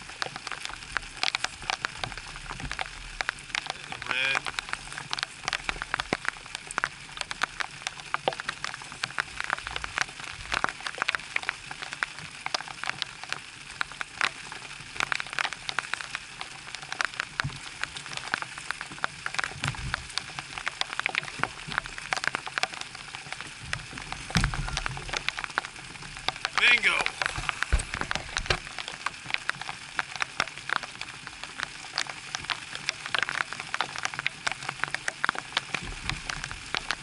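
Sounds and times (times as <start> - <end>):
light rain falling: 0.0 - 37.0
raindrop ticks: 0.0 - 37.0.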